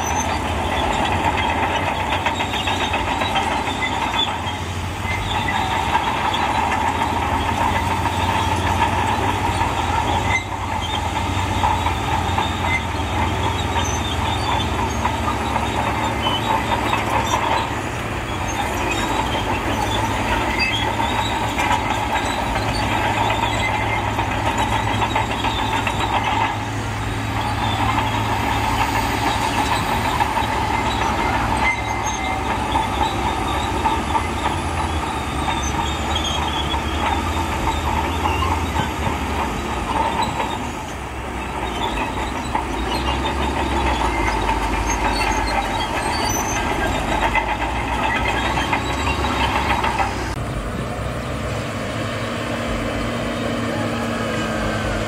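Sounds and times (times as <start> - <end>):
diesel truck engine drone: 0.0 - 55.0
sand unloading rattling rumble: 0.0 - 55.0.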